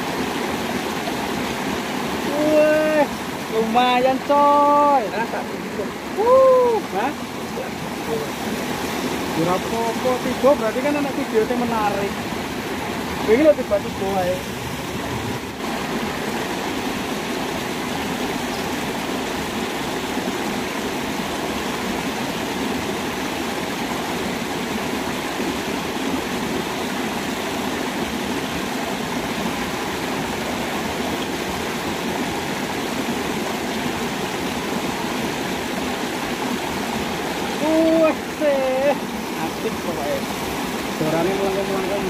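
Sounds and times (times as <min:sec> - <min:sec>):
water flowing in a stream: 0:00.0 - 0:42.0.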